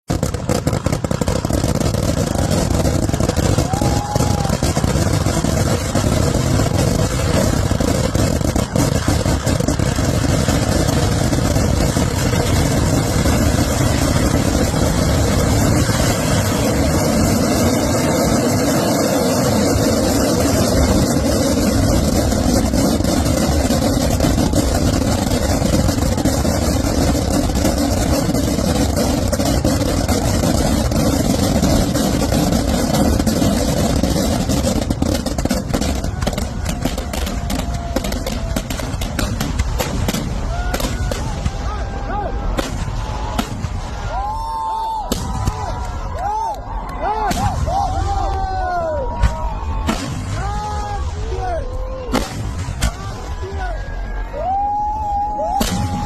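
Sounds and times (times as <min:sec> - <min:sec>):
firecrackers rumbling continuously: 0:00.0 - 0:56.0.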